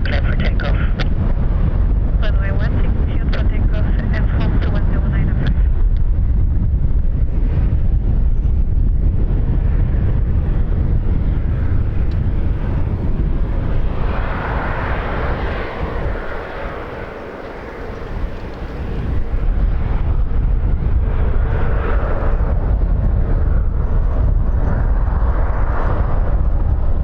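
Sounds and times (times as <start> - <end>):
jet engines at takeoff power: 0.0 - 27.0
wind rumble on microphone: 0.0 - 27.0.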